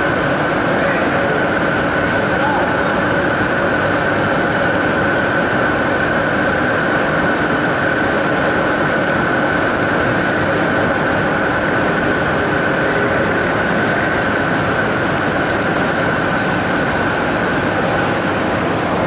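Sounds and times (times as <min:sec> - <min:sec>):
high whine: 0:00.0 - 0:19.0
train running gear hum: 0:00.0 - 0:19.0.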